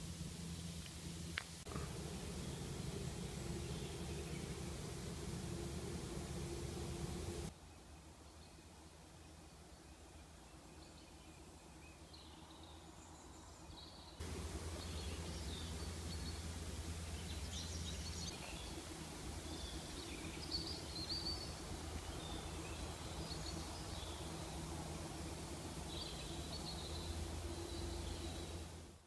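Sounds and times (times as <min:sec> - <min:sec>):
low steady hum: 0:00.0 - 0:29.0
outdoor background ambience: 0:00.0 - 0:29.0
small birds chirping: 0:01.7 - 0:28.8.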